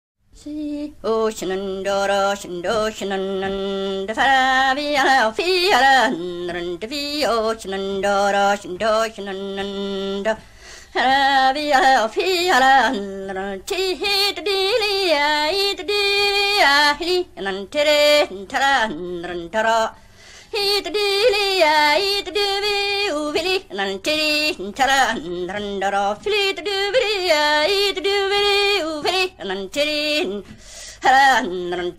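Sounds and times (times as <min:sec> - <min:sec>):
woman singing unaccompanied: 0:00.4 - 0:31.9.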